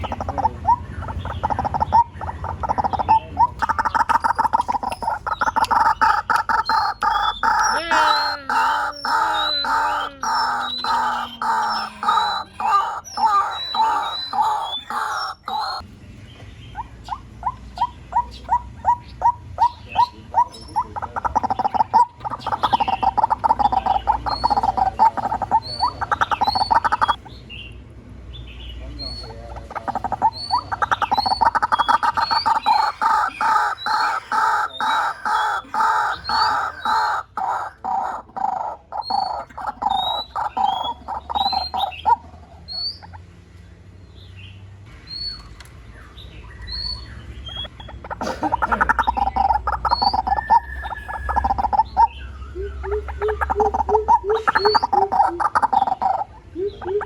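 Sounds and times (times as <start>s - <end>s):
waterhen calling repeated notes: 0.0s - 15.8s, 16.8s - 27.2s, 29.0s - 43.2s, 46.7s - 57.0s.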